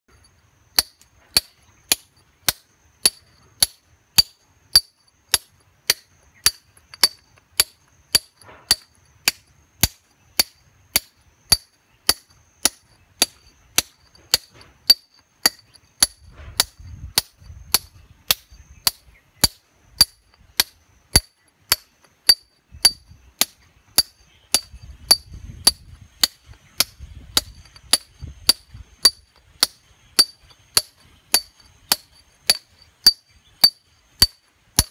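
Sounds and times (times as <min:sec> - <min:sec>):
hammer striking chisel on rock: 0:00.8 - 0:34.9.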